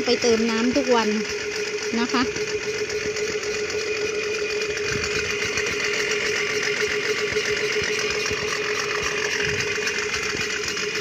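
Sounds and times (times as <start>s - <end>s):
electric motor pump humming: 0.0s - 11.0s.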